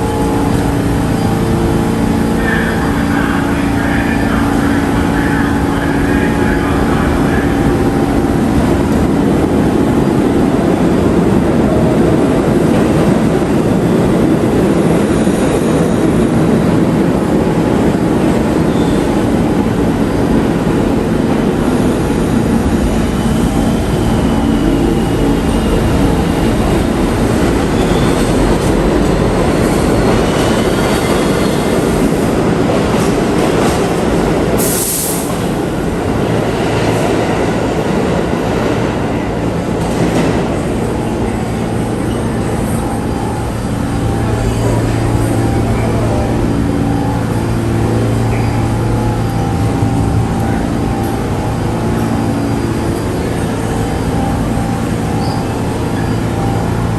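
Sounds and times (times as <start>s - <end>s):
subway train wheels rumbling: 0.0s - 56.9s.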